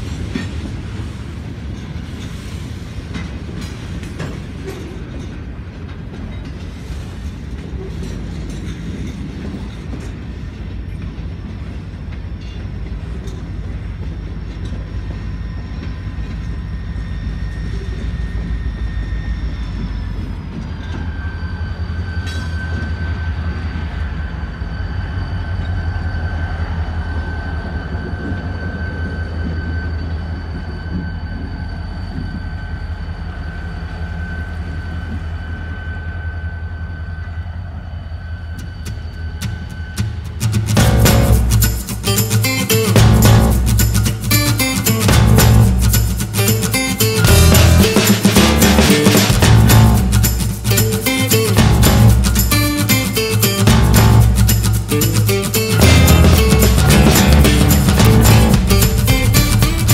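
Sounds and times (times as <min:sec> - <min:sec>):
freight train rumbling: 0:00.0 - 0:59.9
high steady wheel squeal: 0:01.0 - 0:59.9.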